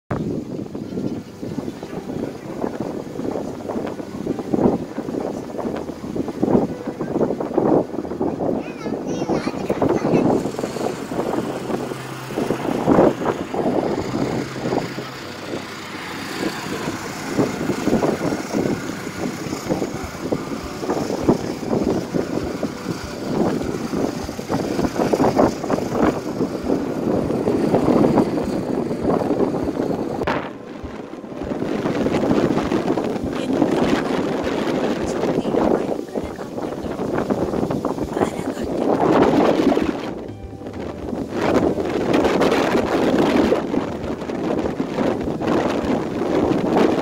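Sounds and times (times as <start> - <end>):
strong wind gusting: 0.1 - 47.0.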